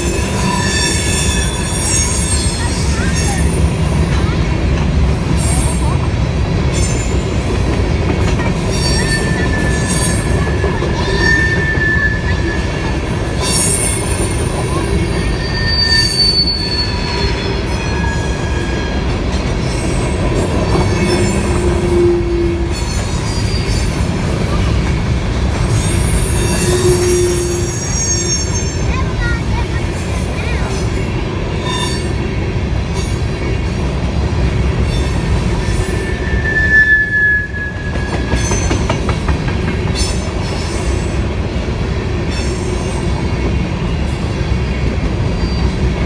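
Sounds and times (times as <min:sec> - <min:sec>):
wheel flanges squealing: 0:00.0 - 0:04.5, 0:05.3 - 0:33.7, 0:34.7 - 0:41.2
freight train rumbling on rails: 0:00.0 - 0:46.0.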